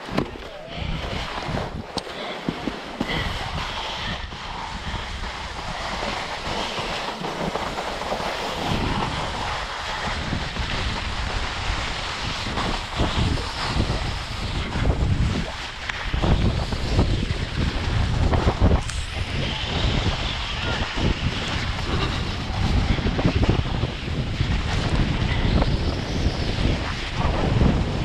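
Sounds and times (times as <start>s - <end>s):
sled sliding on snow: 0.0s - 28.0s
wind buffeting microphone: 0.0s - 28.0s.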